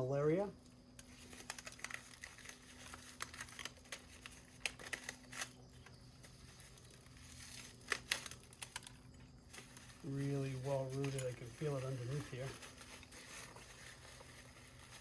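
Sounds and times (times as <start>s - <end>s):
packing wrapping crinkling and tearing: 1.0s - 15.0s.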